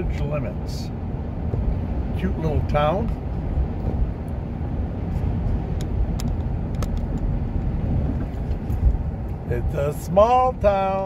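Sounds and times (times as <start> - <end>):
road and engine noise in car cabin: 0.0 - 11.0.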